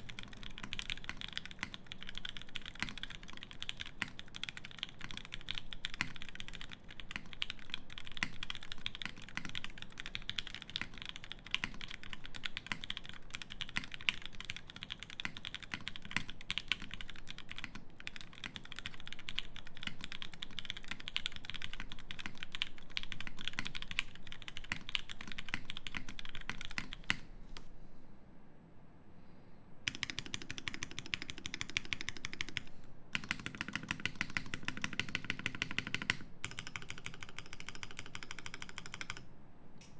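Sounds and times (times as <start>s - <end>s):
mechanical keyboard typing: 0.0s - 27.7s, 29.9s - 39.3s.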